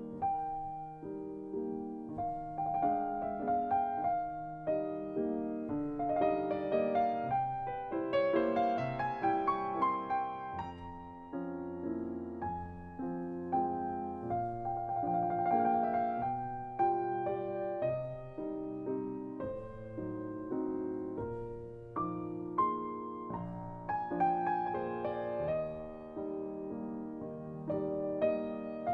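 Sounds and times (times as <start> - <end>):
gentle piano music: 0.0 - 28.9.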